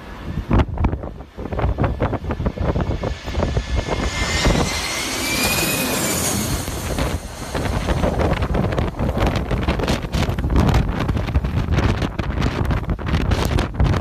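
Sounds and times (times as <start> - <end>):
jet airliner roar and whine: 0.0 - 14.0
wind buffeting microphone: 0.0 - 14.0.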